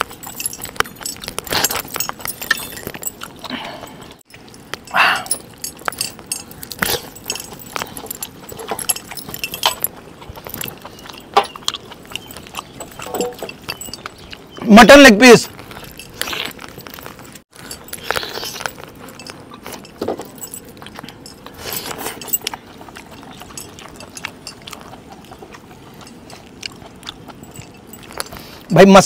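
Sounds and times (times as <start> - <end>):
metal bracelets jingling: 0.0 - 29.0.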